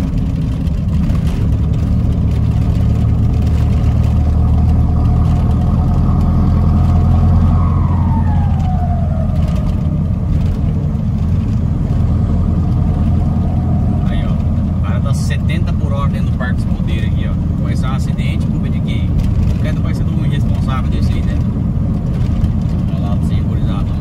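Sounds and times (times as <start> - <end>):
diesel engine drone: 0.0 - 24.0.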